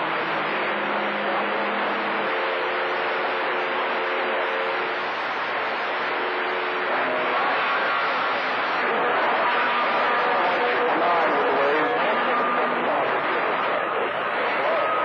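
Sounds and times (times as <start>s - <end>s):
low hum tones: 0.0s - 15.0s
radio static: 0.0s - 15.0s.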